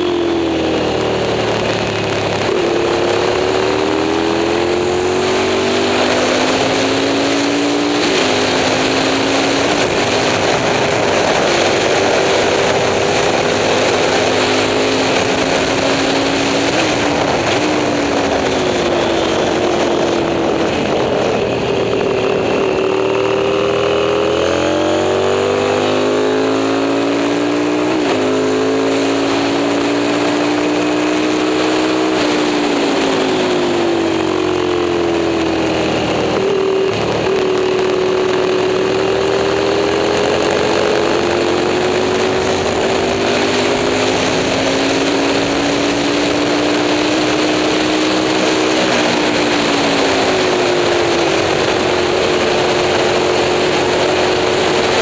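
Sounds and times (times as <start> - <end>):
racing motorcycle engine accelerating: 0.0 - 55.0.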